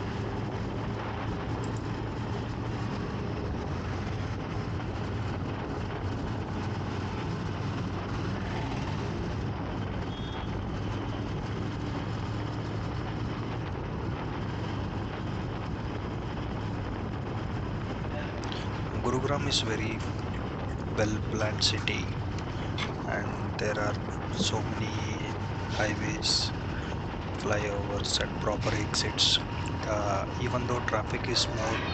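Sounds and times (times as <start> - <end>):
motorcycle engine hum: 0.0 - 31.9
road and traffic noise: 0.0 - 31.9.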